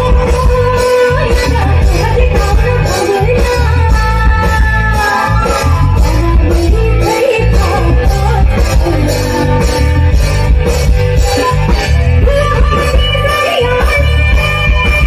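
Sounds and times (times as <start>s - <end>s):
woman singing into a microphone: 0.0s - 10.2s, 11.1s - 15.0s
live band with drums and keyboard: 0.0s - 15.0s.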